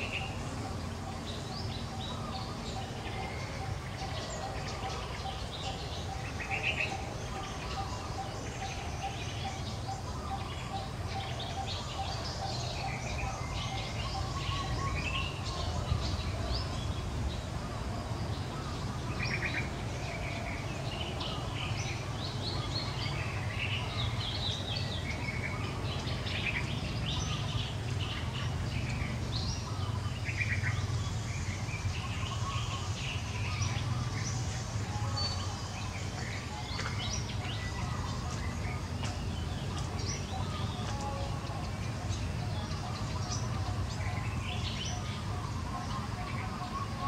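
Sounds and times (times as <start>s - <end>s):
low outdoor hum: 0.0s - 47.0s
wild birds chirping: 0.0s - 47.0s.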